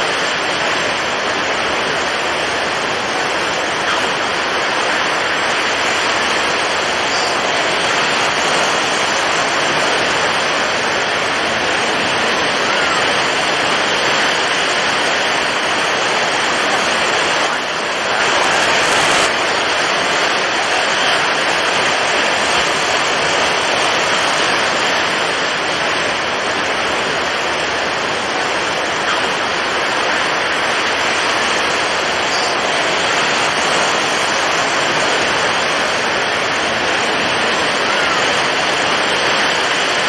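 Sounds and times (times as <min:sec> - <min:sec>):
heavy waves rushing: 0:00.0 - 0:40.0
strong wind: 0:00.0 - 0:40.0.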